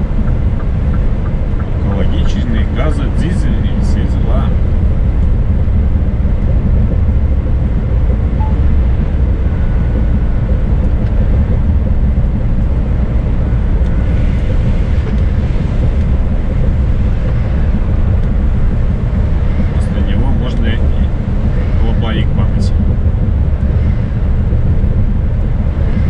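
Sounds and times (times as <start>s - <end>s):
truck engine and tyres drone: 0.0s - 26.0s.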